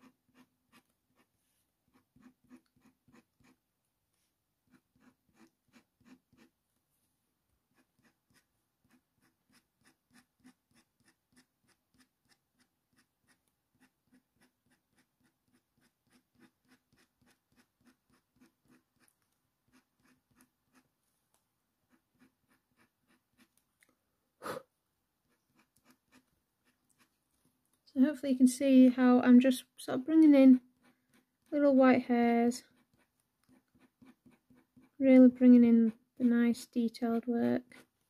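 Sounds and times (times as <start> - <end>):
blade scratching pencil on paper: 0.0 - 3.6, 4.2 - 6.6, 7.6 - 21.0, 21.8 - 23.6, 25.3 - 27.2, 30.1 - 38.0.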